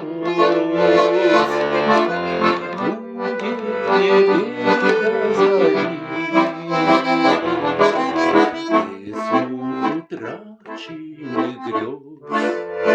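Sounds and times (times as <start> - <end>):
button accordion playing: 0.0 - 12.9
person singing: 0.0 - 12.9.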